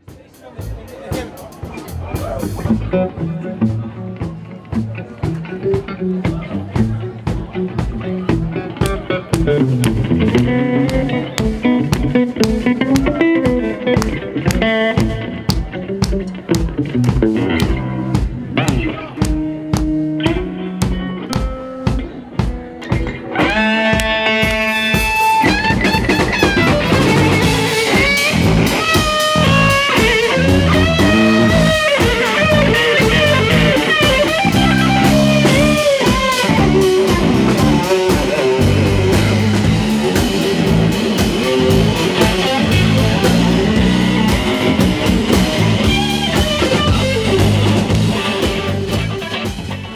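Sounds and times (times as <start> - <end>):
bass guitar: 0.0 - 49.9
drums: 0.0 - 49.9
electric guitar solo with bent notes: 1.9 - 49.9.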